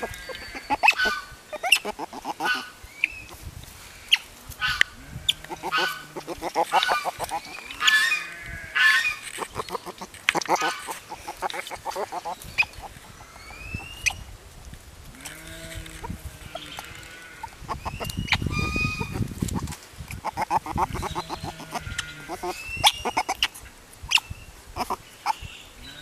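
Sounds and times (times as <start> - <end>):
otter squeaky calls: 0.0 - 3.3, 4.1 - 14.3, 15.6 - 23.5.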